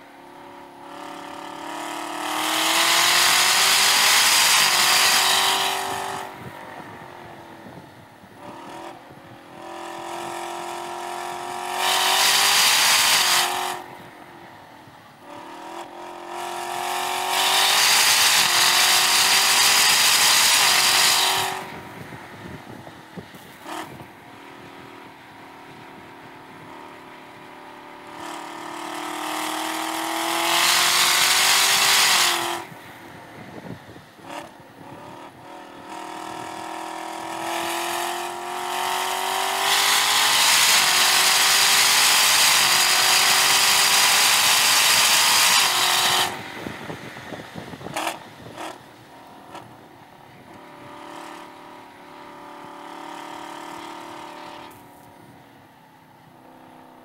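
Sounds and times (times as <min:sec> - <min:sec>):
car engine revving hard: 0:00.8 - 0:06.5, 0:08.4 - 0:14.0, 0:15.2 - 0:22.8, 0:23.4 - 0:24.9, 0:26.3 - 0:32.8, 0:34.2 - 0:54.9.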